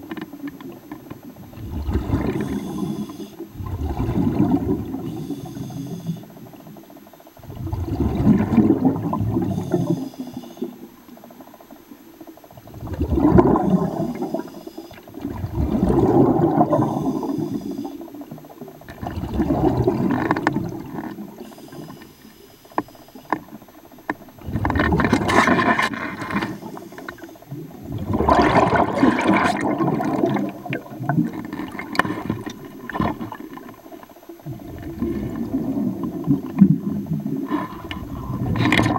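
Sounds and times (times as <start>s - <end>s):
exhaled bubbles gurgling: 0.0s - 6.8s, 7.4s - 22.0s, 23.4s - 38.9s.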